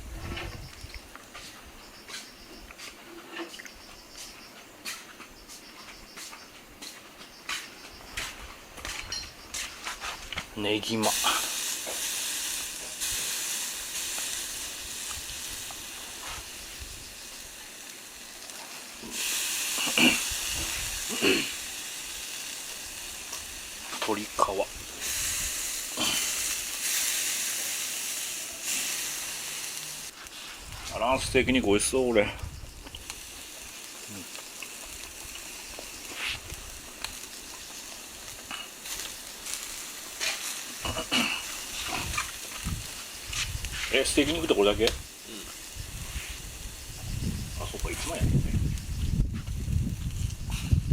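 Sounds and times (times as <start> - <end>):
skewers sizzling over charcoal: 0.0 - 50.9
crackles and pops: 9.9 - 50.9.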